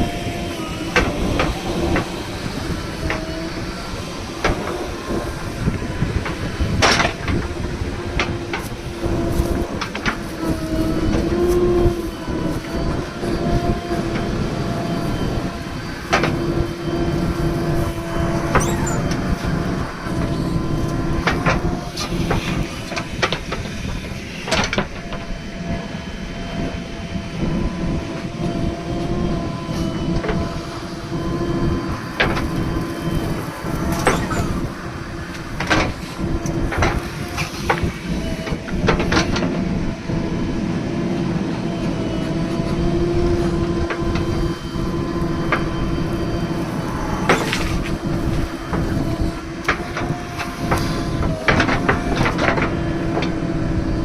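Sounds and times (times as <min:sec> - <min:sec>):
diesel engine running: 0:00.0 - 0:54.0
steady whine: 0:00.0 - 0:54.0.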